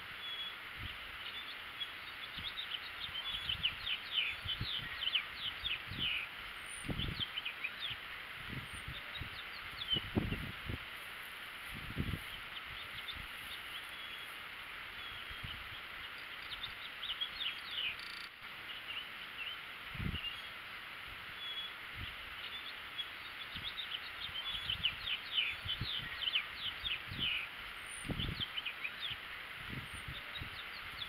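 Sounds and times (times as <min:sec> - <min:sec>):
small songbirds chirping: 0:00.0 - 0:31.0
steady outdoor hiss: 0:00.0 - 0:31.0.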